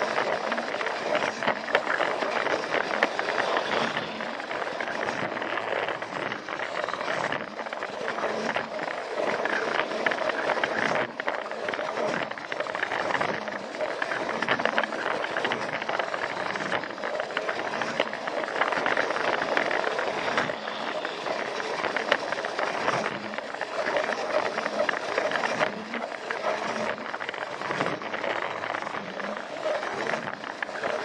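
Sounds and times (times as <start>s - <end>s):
toy train motor whirring: 0.0s - 31.0s
wheels clicking on rail joints: 0.0s - 31.0s.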